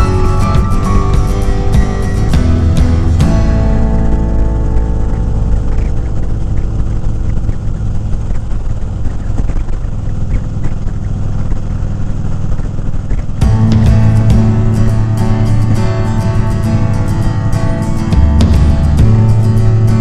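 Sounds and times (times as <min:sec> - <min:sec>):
guitar music: 0:00.0 - 0:20.0
motorcycle engine cruising: 0:00.0 - 0:20.0
wind and road noise: 0:00.0 - 0:20.0.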